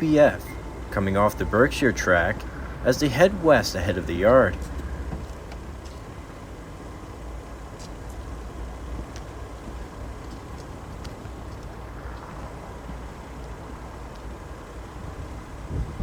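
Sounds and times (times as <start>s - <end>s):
diesel locomotive rumble: 0.0s - 16.0s
faint steady hum: 0.0s - 16.0s.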